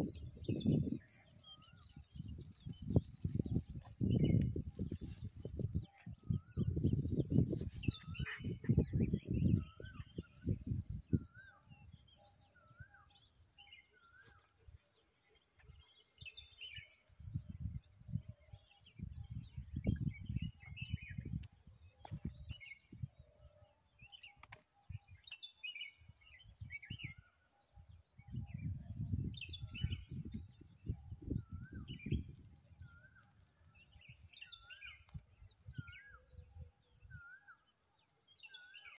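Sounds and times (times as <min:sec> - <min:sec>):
wind rumble on microphone: 0:00.0 - 0:14.9, 0:15.6 - 0:37.6
birds chirping: 0:00.0 - 0:38.9.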